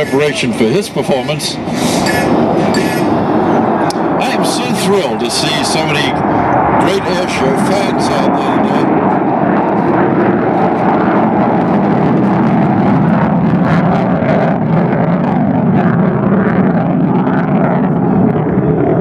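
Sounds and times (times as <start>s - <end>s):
loud jet noise: 0.0s - 19.0s.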